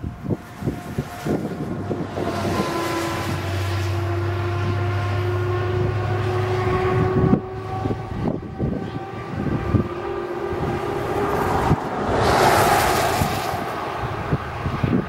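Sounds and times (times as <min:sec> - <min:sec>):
tyres on snowy road: 0:00.0 - 0:15.0
truck engine driving away: 0:00.7 - 0:15.0.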